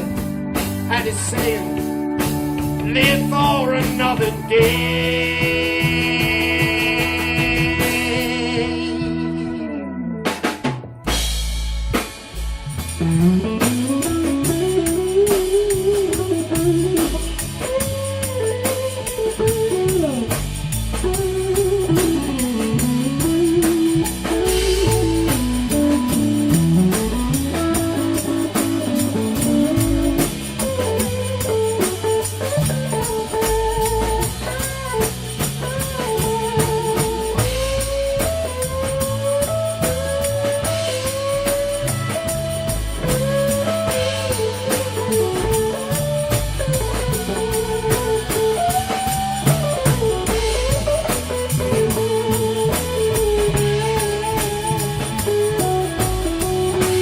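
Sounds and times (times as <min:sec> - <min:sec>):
bass: 0:00.0 - 0:57.0
drums: 0:00.0 - 0:57.0
lead guitar solo: 0:00.0 - 0:57.0.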